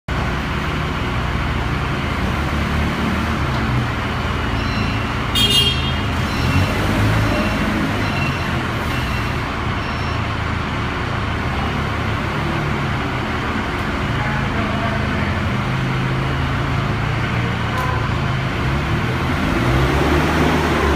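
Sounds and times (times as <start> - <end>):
forklift engine running: 0.1 - 20.9.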